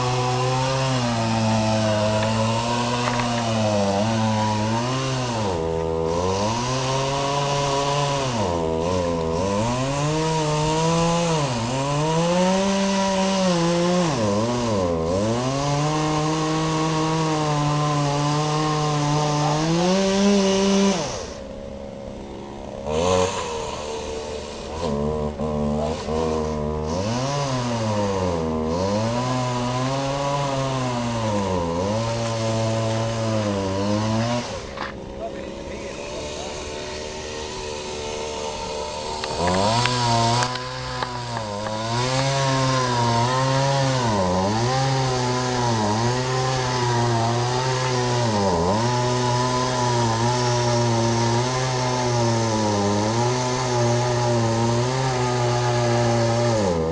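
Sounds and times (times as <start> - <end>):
chainsaw engine revving: 0.0 - 56.9.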